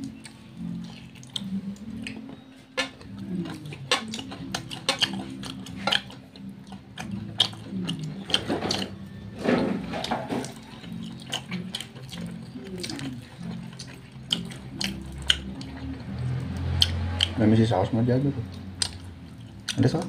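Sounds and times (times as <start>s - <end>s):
wet chewing and lip-smacking: 0.0s - 9.1s, 9.8s - 17.4s, 18.4s - 20.0s.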